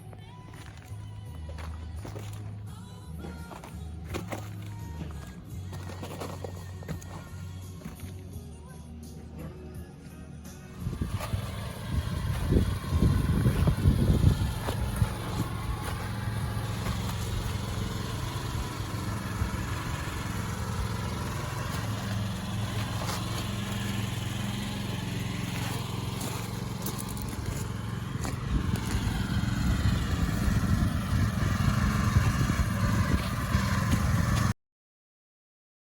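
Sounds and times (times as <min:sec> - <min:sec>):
engine humming: 0:00.0 - 0:34.6.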